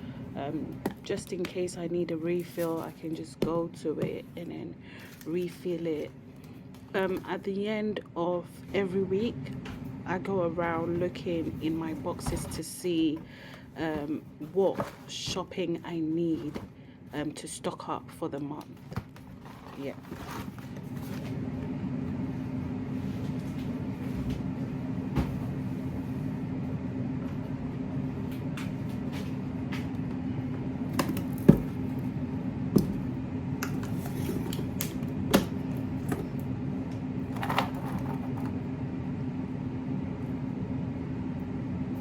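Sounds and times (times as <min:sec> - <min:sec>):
air fryer fan hum: 0:00.0 - 0:42.0.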